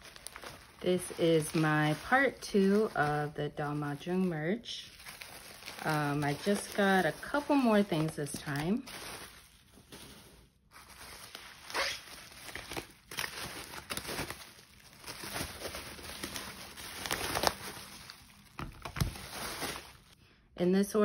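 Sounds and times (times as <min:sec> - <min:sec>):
bubble wrap crinkling: 0:00.0 - 0:20.2.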